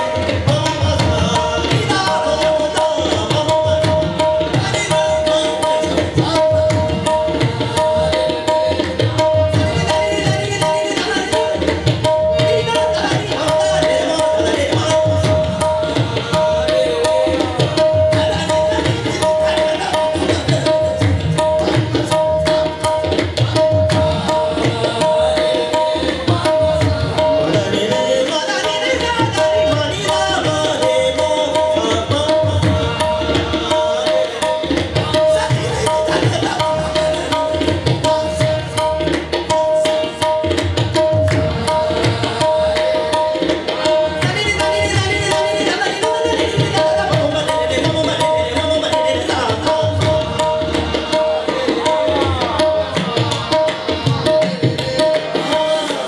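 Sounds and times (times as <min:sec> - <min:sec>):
fast hand drum beat: 0:00.0 - 0:56.0.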